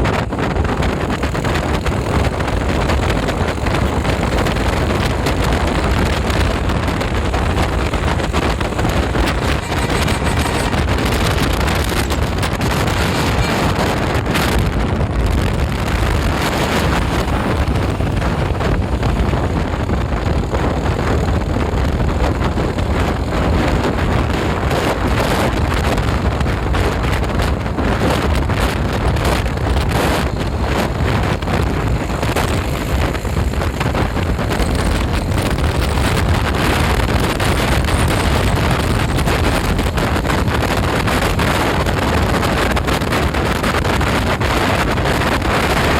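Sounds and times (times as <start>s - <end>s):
wind buffeting the microphone: 0.0s - 45.9s.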